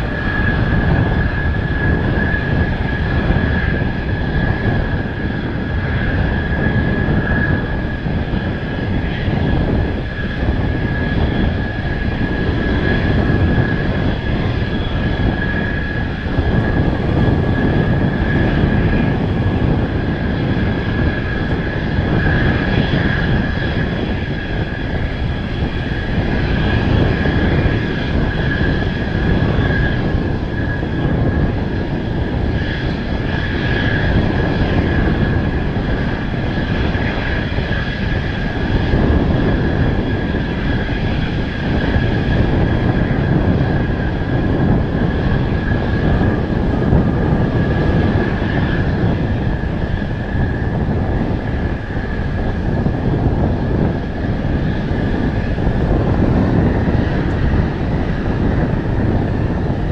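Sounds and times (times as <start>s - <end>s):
jet engines whining and rumbling: 0.0s - 59.9s
wind buffeting microphone: 0.0s - 59.9s.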